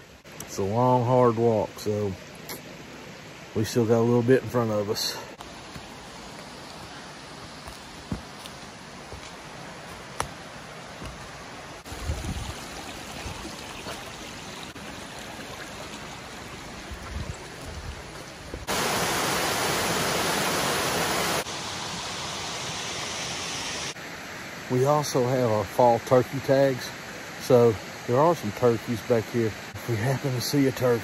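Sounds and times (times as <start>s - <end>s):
creek running over rocks: 0.0s - 31.0s.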